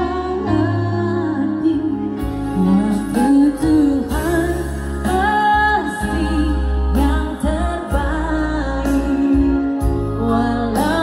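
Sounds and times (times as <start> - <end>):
electronic keyboard: 0.0 - 11.0
steady bass: 0.0 - 11.0
woman singing into microphone: 0.0 - 11.0.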